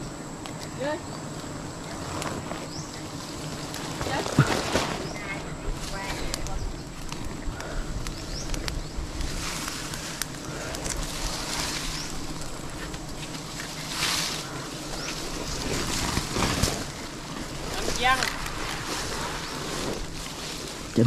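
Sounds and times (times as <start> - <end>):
leaves and bark rustling: 0.0 - 21.0.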